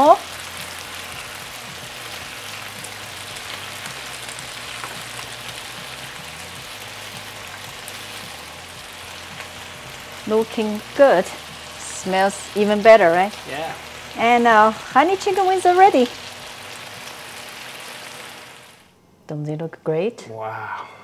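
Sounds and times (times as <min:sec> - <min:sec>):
chicken wings sizzling in a frying pan: 0:00.0 - 0:18.9.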